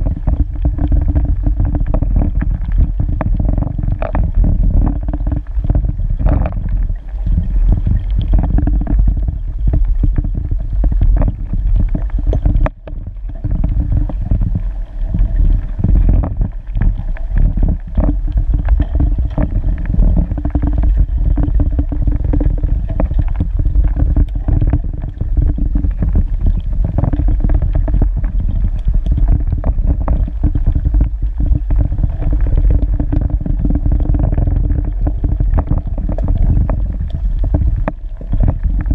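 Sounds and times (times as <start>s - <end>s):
low hum: 0.0s - 38.9s
underwater rumble and crackle: 0.0s - 38.9s.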